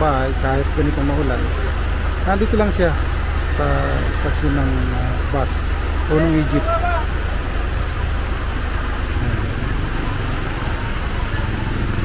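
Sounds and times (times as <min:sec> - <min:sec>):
steady rain falling: 0:00.0 - 0:12.0
vehicle engine idling: 0:00.0 - 0:12.0.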